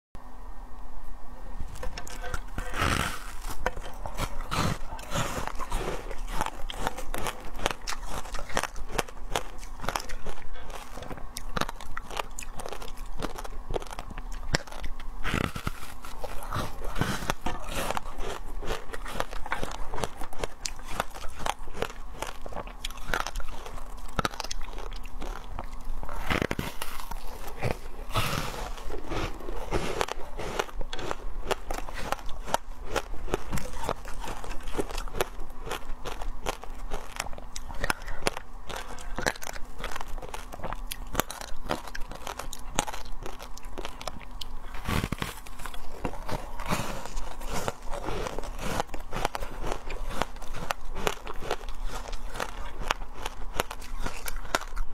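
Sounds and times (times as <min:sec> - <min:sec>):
ice crunching while chewed: 0:01.6 - 0:54.9.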